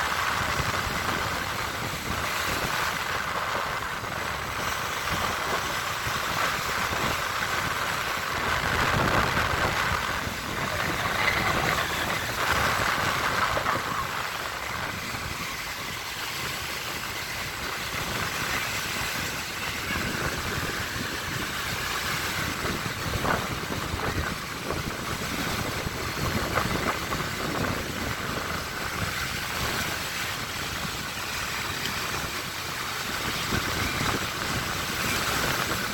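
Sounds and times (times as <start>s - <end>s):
waves washing onto shore: 0.0s - 35.9s.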